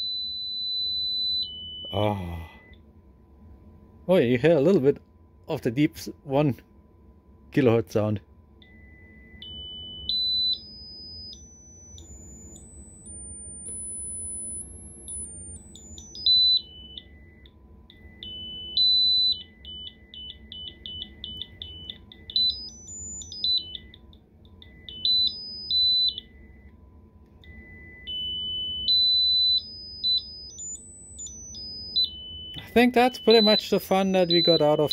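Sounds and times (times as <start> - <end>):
shrill piezo speaker tone: 0.0 - 2.8, 8.5 - 34.9.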